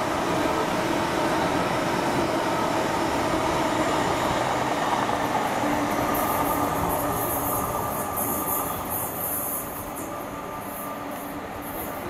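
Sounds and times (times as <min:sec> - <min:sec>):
diesel train running: 0:00.0 - 0:12.0.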